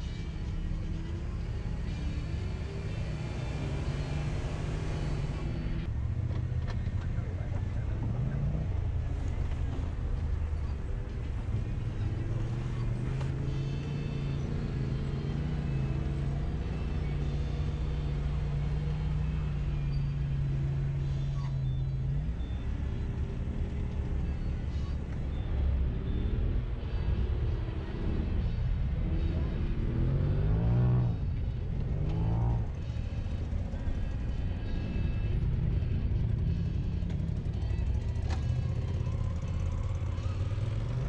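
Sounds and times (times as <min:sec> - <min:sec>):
engine running at low revs: 0:00.0 - 0:41.0.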